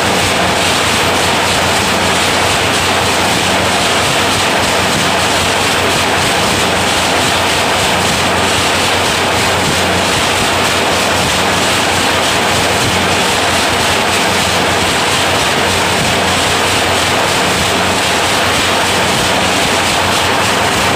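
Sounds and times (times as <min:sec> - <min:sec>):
low machine hum: 0:00.0 - 0:20.9
machine mechanical clatter: 0:00.0 - 0:20.9.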